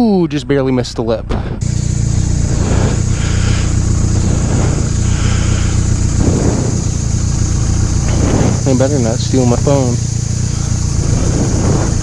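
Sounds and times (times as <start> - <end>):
motorcycle engine running steadily: 0.0 - 12.0
rush of air: 1.6 - 12.0.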